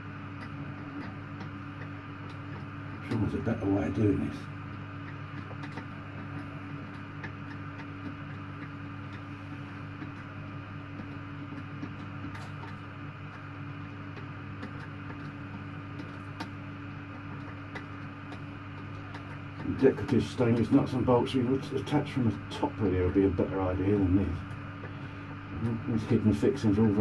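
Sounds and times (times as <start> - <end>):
low hum: 0.0 - 27.0
faint clicks and taps: 0.4 - 10.3, 10.9 - 27.0.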